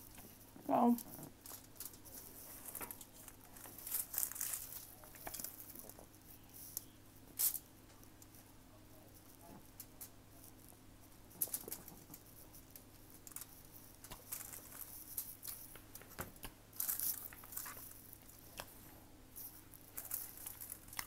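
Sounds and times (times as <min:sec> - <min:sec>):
powder crackling and rustling: 0:00.0 - 0:08.5, 0:09.1 - 0:21.0.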